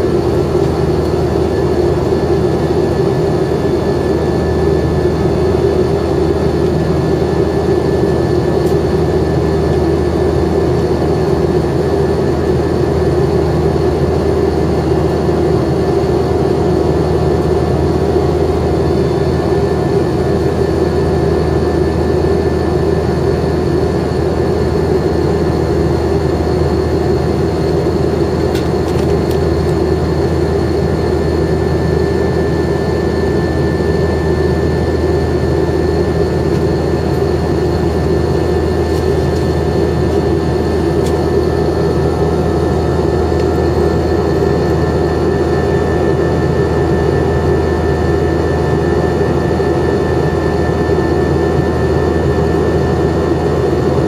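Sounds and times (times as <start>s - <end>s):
jet engine rush in cabin: 0.0s - 54.0s
steady whining tones: 0.0s - 54.0s.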